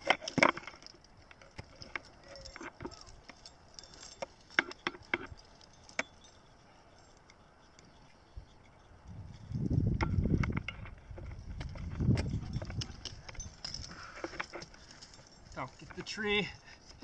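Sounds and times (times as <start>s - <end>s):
climbing gear clinking: 0.0s - 17.0s.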